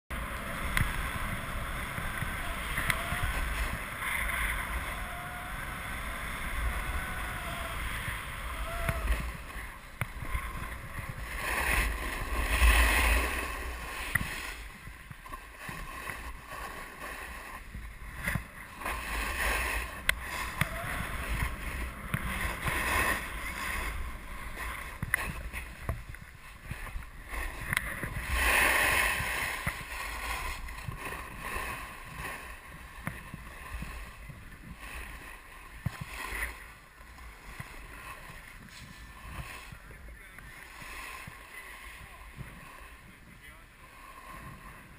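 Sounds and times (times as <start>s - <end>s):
skis scraping over snow: 0.1s - 44.9s
wind buffeting microphone: 0.1s - 44.9s.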